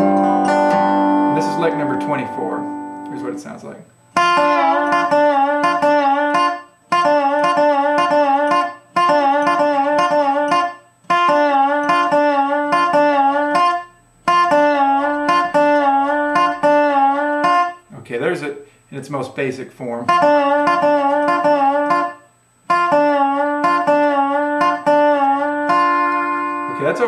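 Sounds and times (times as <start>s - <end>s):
resonator guitar slide lick: 0.0s - 3.5s, 4.2s - 17.8s, 20.1s - 27.0s.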